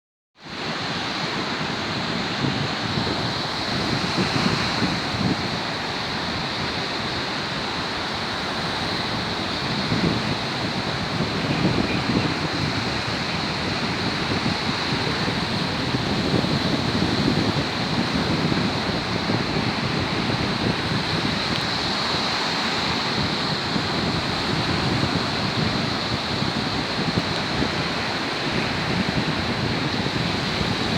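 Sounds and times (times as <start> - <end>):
waves breaking on shore: 0.4 - 30.9
wind on microphone: 0.4 - 30.9.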